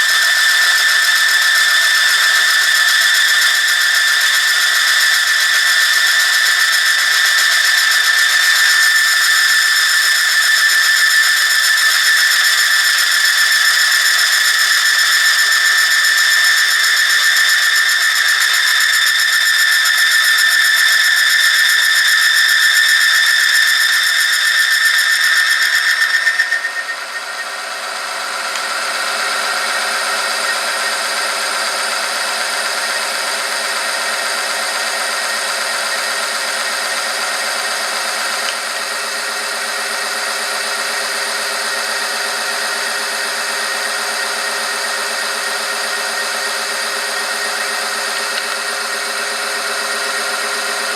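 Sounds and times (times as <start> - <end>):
machine motor whine: 0.0 - 50.9.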